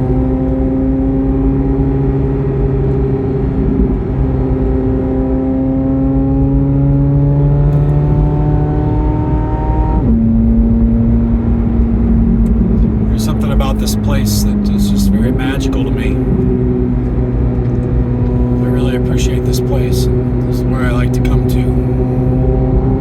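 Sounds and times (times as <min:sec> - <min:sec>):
road noise: 0:00.0 - 0:23.0
sports car engine accelerating: 0:00.0 - 0:23.0.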